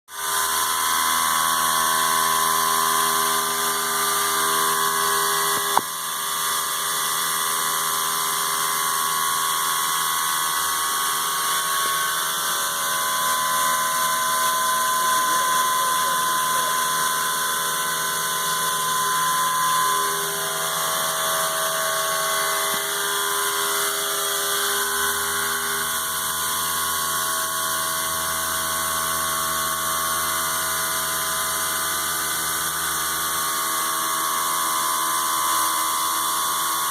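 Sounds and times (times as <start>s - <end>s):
milling machine cutting metal whine: 0.2s - 36.9s.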